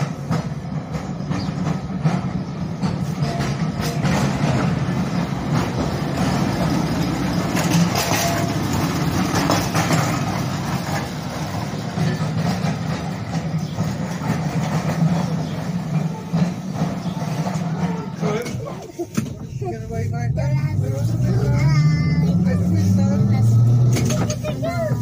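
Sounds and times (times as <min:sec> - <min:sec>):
tram motors and wheels humming: 0:00.0 - 0:25.0.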